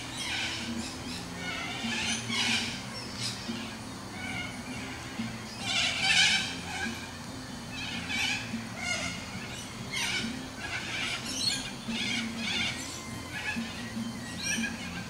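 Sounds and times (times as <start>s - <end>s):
birds harsh calls: 0.0s - 15.0s.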